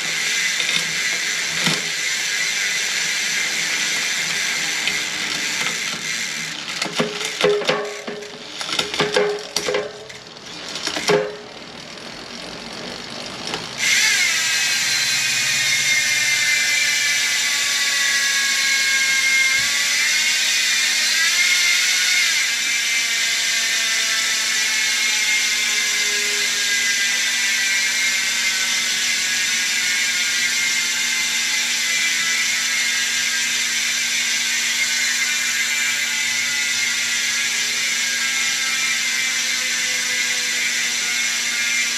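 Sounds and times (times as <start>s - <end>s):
freehub ratcheting buzz: 0.0s - 41.9s.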